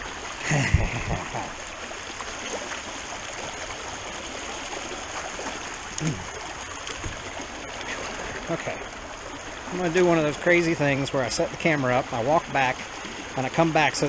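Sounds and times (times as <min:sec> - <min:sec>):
creek water running: 0:00.0 - 0:14.0.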